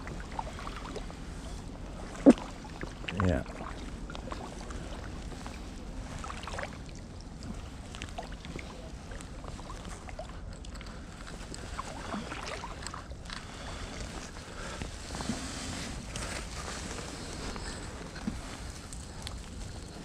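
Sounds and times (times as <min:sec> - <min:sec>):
paddle strokes in water: 0:00.0 - 0:20.0.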